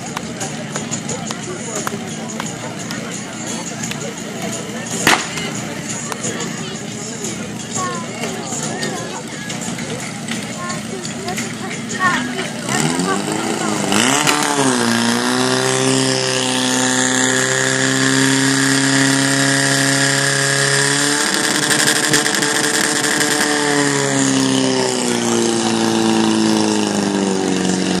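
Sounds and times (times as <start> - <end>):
small petrol engine at high revs: 0.0 - 28.0.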